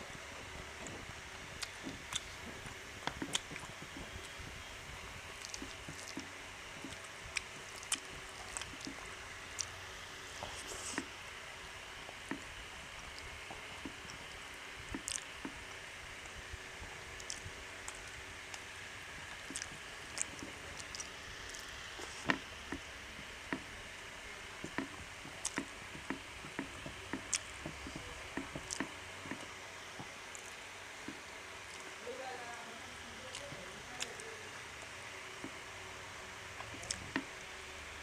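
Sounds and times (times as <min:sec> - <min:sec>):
wet squishes of eating: 0:00.6 - 0:04.6, 0:05.2 - 0:32.0, 0:33.3 - 0:37.5.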